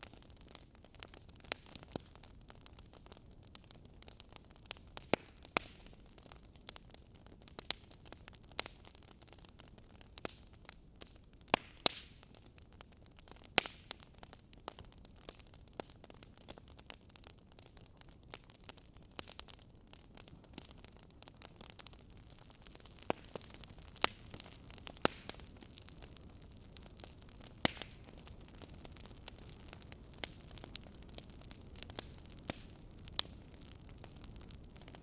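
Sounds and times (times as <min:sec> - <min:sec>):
faint steady hiss: 0:00.0 - 0:35.0
wood fire crackling: 0:00.0 - 0:35.0.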